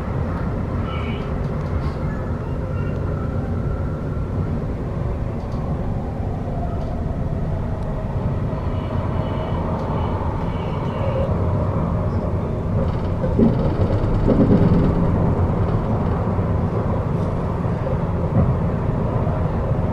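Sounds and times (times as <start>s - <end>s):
train wheels rumbling on rail: 0.0s - 19.9s.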